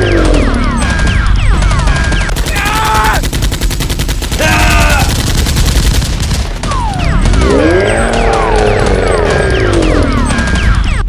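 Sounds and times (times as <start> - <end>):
machine-gun fire: 0.0 - 11.0.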